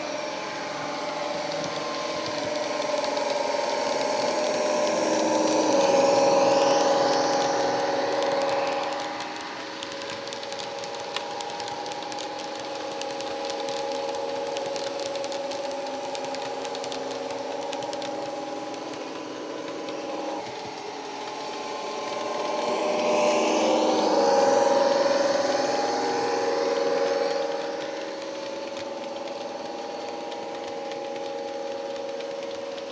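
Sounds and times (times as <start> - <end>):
wheels clicking on track: 0.0 - 32.9.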